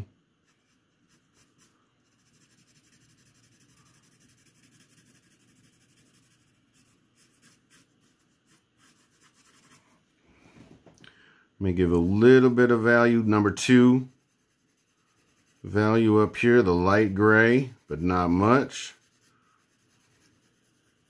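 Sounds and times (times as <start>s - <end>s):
pencil shading on paper: 0.4s - 9.9s, 11.9s - 21.0s.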